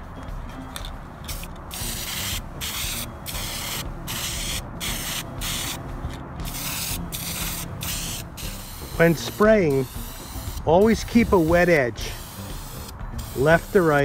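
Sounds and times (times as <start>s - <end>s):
spray can hissing: 1.3s - 5.8s, 6.4s - 14.0s.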